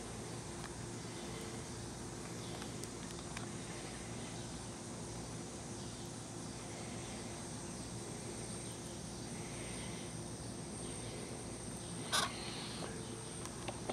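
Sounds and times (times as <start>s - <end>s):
insect drone: 0.0s - 13.9s.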